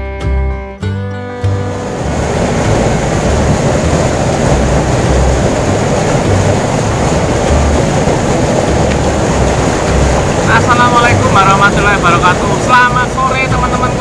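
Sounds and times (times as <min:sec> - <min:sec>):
water rushing down a canal: 0:01.6 - 0:14.0
wind buffeting microphone: 0:01.7 - 0:14.0.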